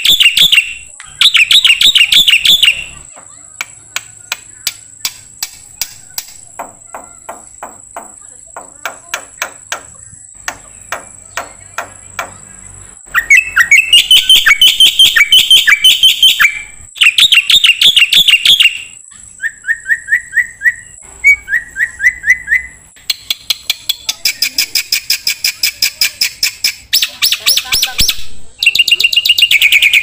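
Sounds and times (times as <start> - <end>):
songbird song: 0.0 - 30.0.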